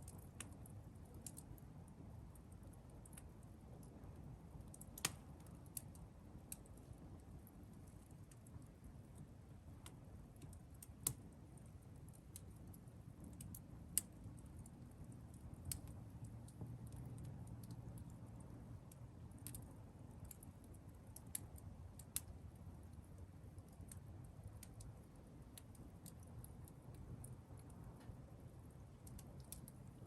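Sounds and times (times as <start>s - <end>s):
campfire crackling and popping: 0.0s - 30.0s
low steady rumble: 0.0s - 30.0s.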